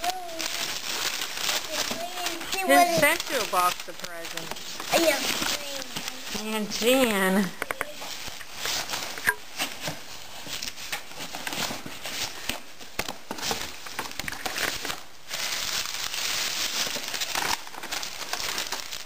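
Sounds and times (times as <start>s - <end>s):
wrapping paper crinkling and tearing: 0.0s - 19.0s.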